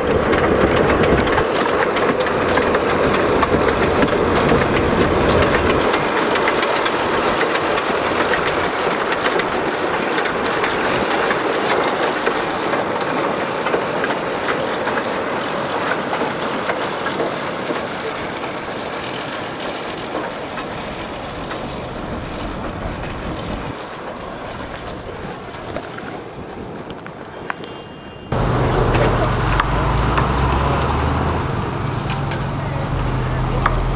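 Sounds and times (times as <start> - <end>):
wagons rattling and clicking: 0.0 - 27.7, 28.3 - 33.9
train rolling along track: 0.0 - 33.9.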